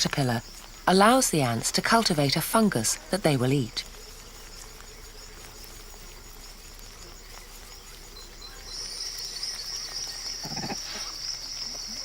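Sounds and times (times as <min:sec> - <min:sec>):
forest ambience: 0:00.0 - 0:12.0
high insect buzz: 0:00.0 - 0:12.0.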